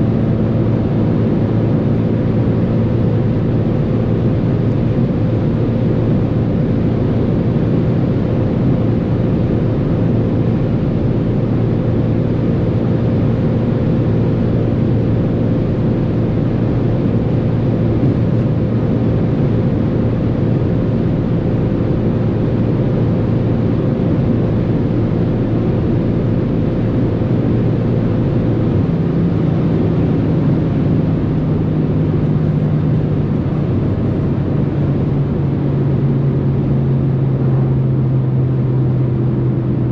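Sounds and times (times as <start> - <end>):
car engine droning at high speed: 0.0 - 39.9.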